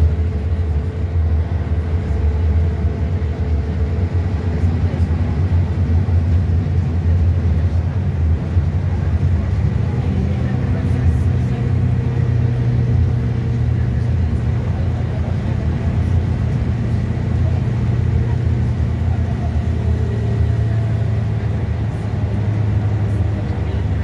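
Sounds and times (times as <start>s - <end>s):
bus diesel engine hum: 0.0s - 24.0s.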